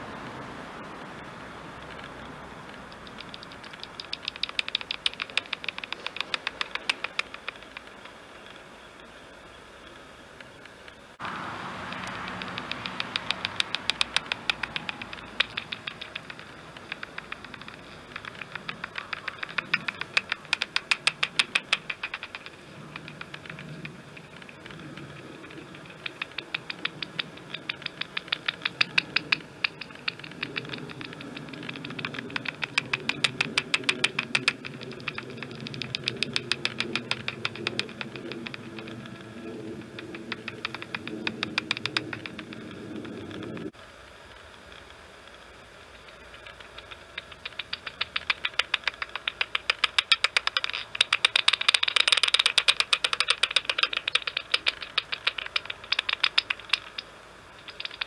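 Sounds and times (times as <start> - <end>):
bat detector clicks: 1.0 - 8.6, 9.9 - 43.8, 44.4 - 58.0.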